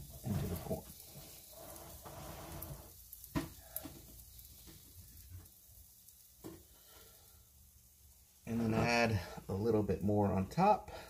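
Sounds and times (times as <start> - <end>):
batter sizzling on waffle iron: 0.0 - 11.0.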